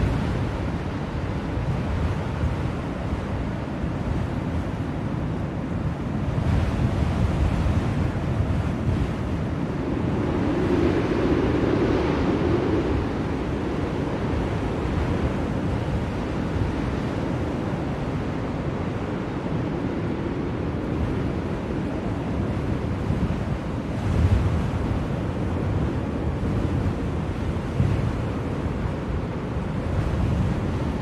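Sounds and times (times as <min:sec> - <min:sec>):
blizzard wind blowing: 0:00.0 - 0:31.0.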